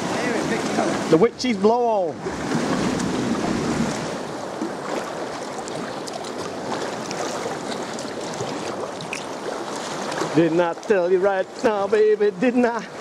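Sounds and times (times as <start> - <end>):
water sloshing against kayak hull: 0.0 - 13.0
small water splashes: 2.1 - 13.0.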